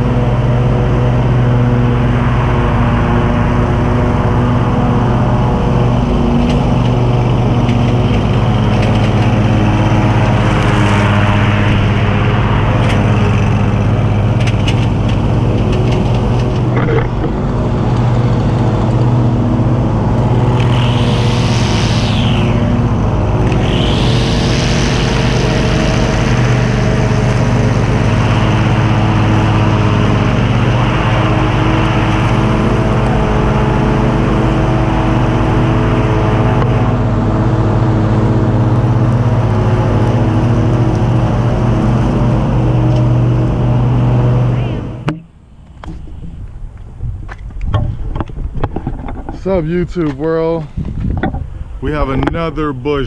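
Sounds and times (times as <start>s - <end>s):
string trimmer running: 0.0s - 46.0s
high engine whine: 0.0s - 53.0s
mower engine drone: 0.0s - 53.0s.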